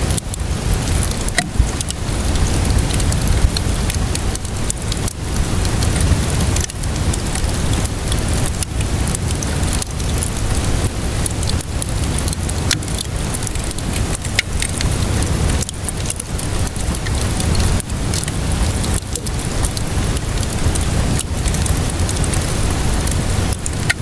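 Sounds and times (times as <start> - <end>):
rainfall hiss: 0.0 - 24.0
wood fire crackling and popping: 0.0 - 24.0.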